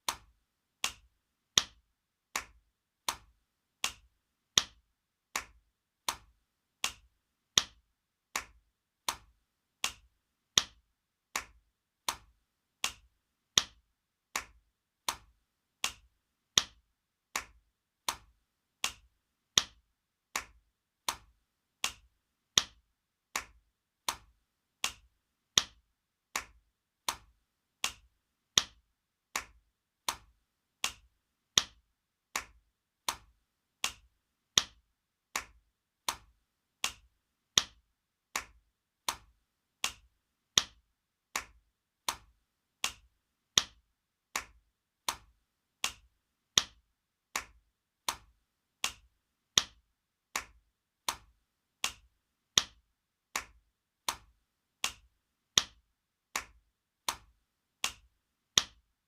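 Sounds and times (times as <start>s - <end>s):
hand slap: 0.0s - 7.8s, 8.4s - 10.8s, 11.4s - 13.8s, 14.4s - 16.8s, 17.4s - 19.8s, 20.4s - 22.8s, 23.4s - 25.8s, 26.4s - 28.8s, 29.4s - 31.8s, 32.4s - 34.8s, 35.4s - 37.8s, 38.4s - 40.8s, 41.4s - 43.8s, 44.4s - 46.8s, 47.4s - 49.8s, 50.4s - 52.8s, 53.4s - 55.8s, 56.4s - 58.8s.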